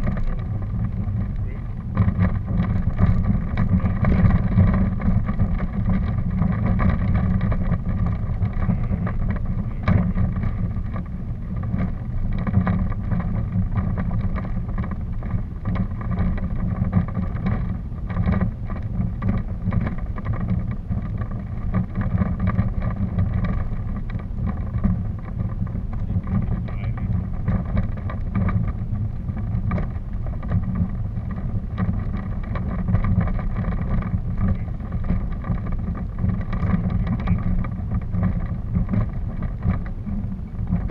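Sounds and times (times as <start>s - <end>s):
faint hum: 0.0s - 40.9s
low rumble of wind noise: 0.0s - 40.9s
small clicks and rattles: 0.0s - 40.9s.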